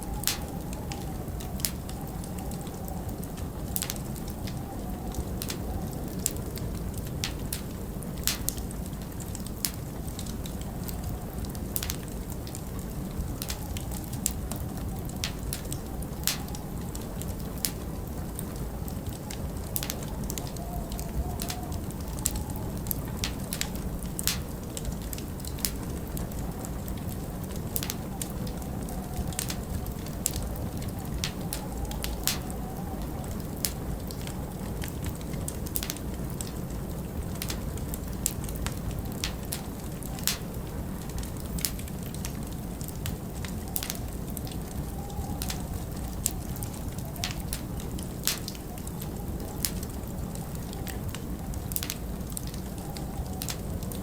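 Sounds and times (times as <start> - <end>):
wind rumble: 0.0 - 54.0
wood fire crackling: 0.0 - 54.0.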